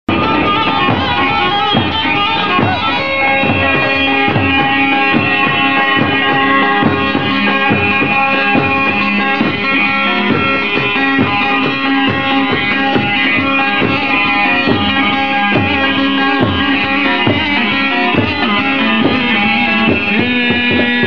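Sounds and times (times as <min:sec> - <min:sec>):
folk dance music: 0:00.1 - 0:21.0
plucked string instruments: 0:00.1 - 0:21.0
steady drum beat: 0:00.1 - 0:21.0.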